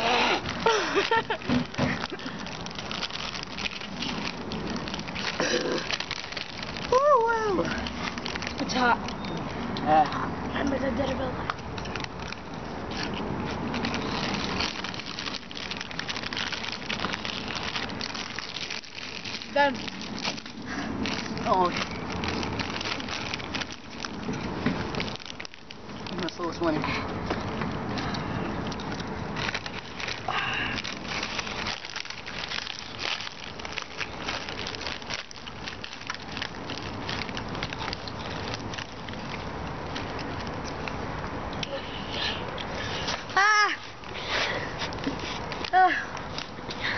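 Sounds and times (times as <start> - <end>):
chips being crunched: 0.0 - 9.3, 11.7 - 26.7, 27.4 - 41.0
chip bags crinkling: 0.0 - 46.9
low background rumble: 0.0 - 46.9.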